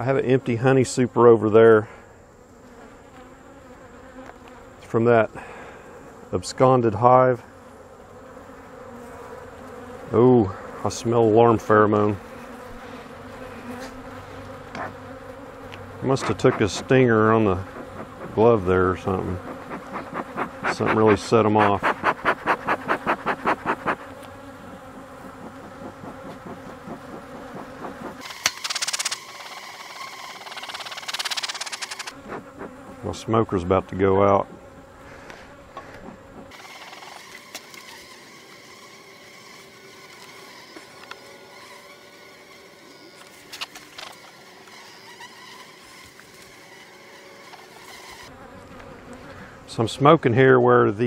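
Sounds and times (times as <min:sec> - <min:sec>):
bee smoker bellows puffing: 0:00.0 - 0:50.5
bees buzzing: 0:00.0 - 0:51.0.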